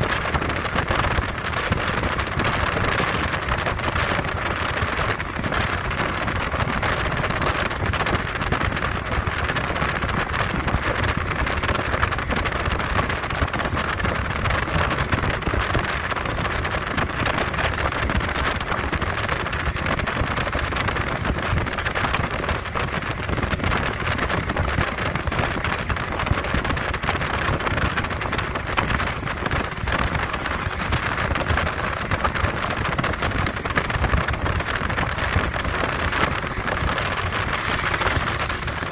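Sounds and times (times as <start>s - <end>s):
rush of wind: 0.0s - 38.9s
train wheels on rails: 0.0s - 38.9s.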